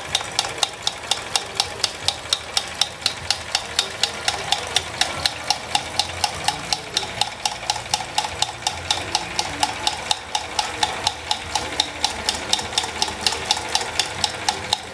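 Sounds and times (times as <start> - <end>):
toy steam engine clicks: 0.0 - 14.9.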